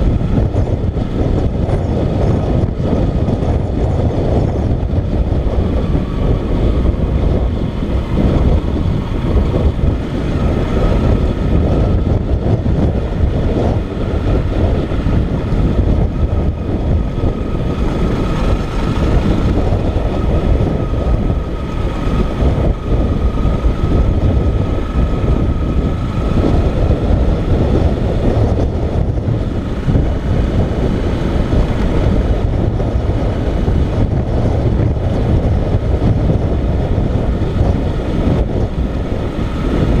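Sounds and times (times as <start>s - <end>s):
motorcycle engine rumble: 0.0s - 40.0s.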